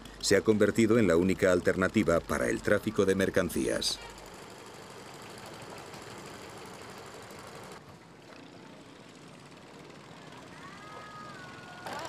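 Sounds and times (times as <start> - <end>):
small boat engines puttering: 0.0 - 12.0.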